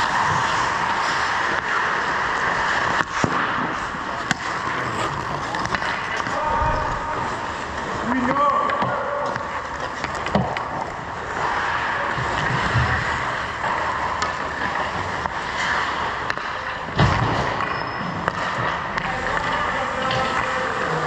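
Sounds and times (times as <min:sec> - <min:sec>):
sticks and puck clicking: 0:00.0 - 0:06.4, 0:07.6 - 0:16.9, 0:17.6 - 0:21.0
skate blades scraping ice: 0:00.0 - 0:21.0.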